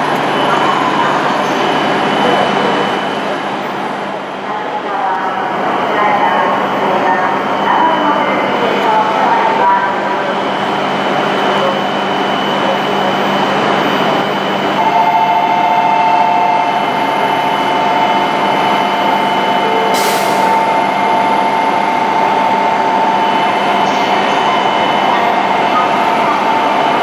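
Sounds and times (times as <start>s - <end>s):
train humming: 0.0s - 27.0s.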